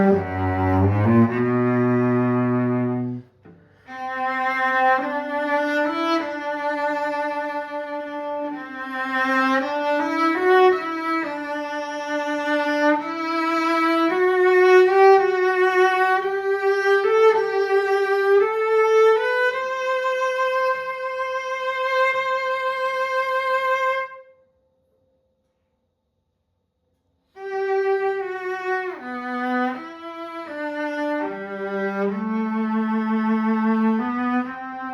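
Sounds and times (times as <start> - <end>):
solo cello melody: 0.0 - 24.3, 27.3 - 34.9.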